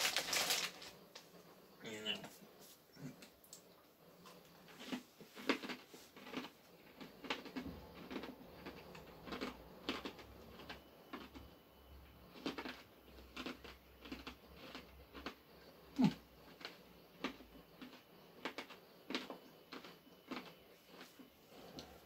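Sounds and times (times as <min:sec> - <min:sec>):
person chewing crunchy pretzels: 0:04.3 - 0:22.0.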